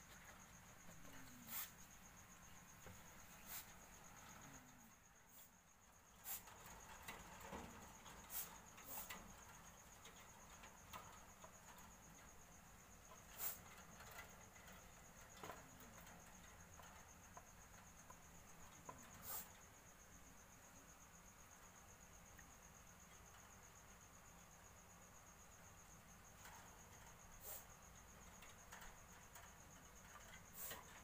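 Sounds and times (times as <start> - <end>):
cricket trill: 0.0 - 31.0.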